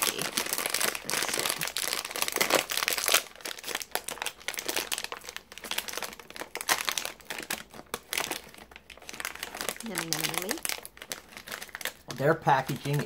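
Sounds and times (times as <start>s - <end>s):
snack wrapper crackling: 0.0s - 13.0s.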